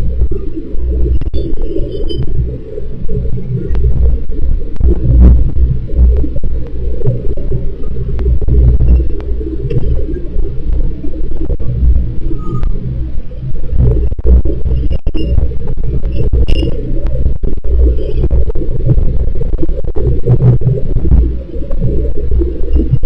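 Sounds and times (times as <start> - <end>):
sharp clicks and crackles: 0.0 - 23.0.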